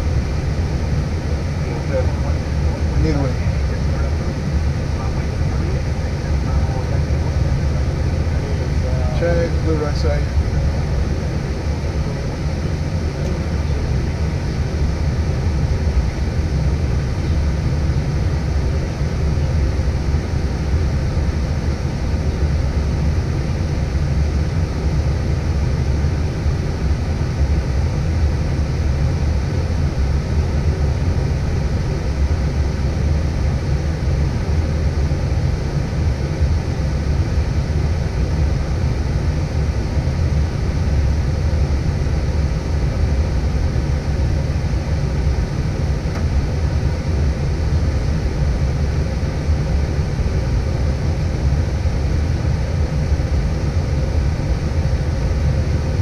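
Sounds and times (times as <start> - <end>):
aircraft engines idling rumble: 0.0 - 56.0.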